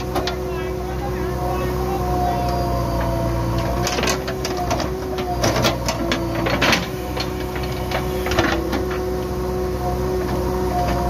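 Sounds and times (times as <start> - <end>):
diesel engine running under load: 0.0 - 11.0
hydraulic whine: 0.0 - 11.0.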